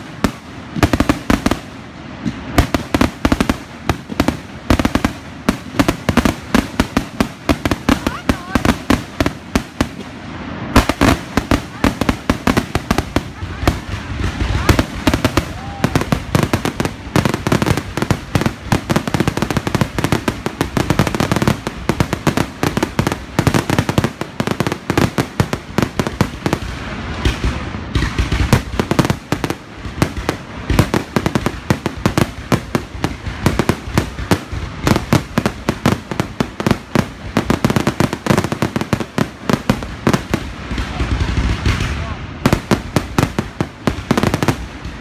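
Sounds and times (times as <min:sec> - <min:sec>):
fireworks bangs: 0:00.0 - 0:45.0.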